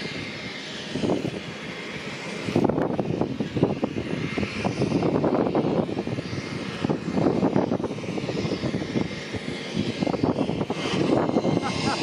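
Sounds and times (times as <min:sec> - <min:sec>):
high engine whine: 0:00.0 - 0:12.0
turboprop engines droning: 0:00.0 - 0:12.0.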